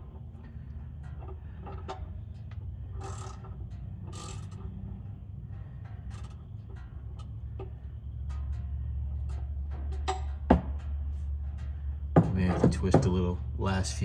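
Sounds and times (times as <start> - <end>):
steady low rumble: 0.0 - 14.0
wrench scraping and clicking on metal: 0.1 - 13.1.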